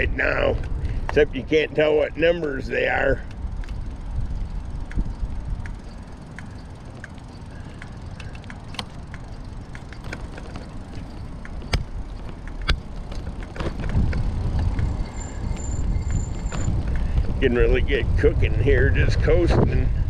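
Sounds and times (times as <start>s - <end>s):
bike clicks and knocks: 0.0s - 19.5s
bicycle tyre noise: 0.0s - 20.0s
wind rumble on microphone: 0.0s - 20.0s.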